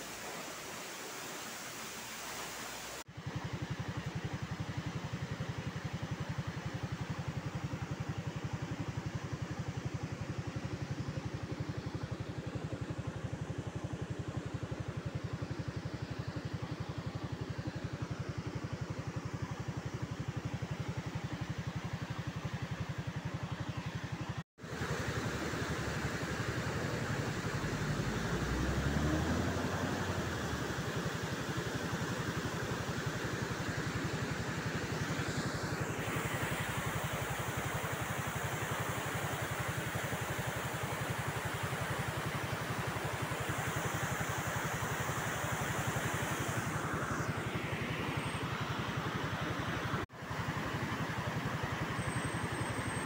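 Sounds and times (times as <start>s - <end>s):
motorcycle engine running: 3.2s - 53.0s.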